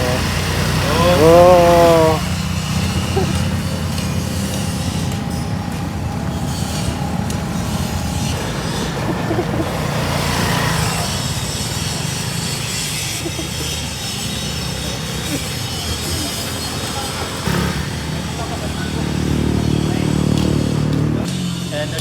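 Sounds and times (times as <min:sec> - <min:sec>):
small motorcycle engine idling: 0:00.0 - 0:22.0.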